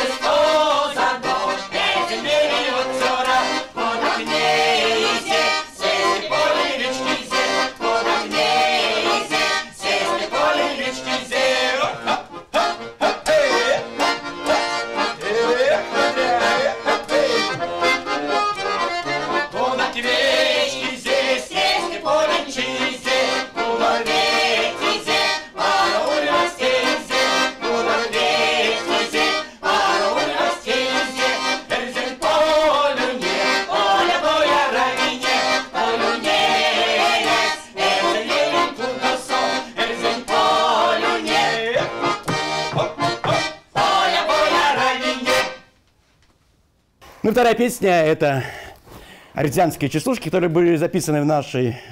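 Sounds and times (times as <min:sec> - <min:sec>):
women singing folk song: 0:00.0 - 0:45.6.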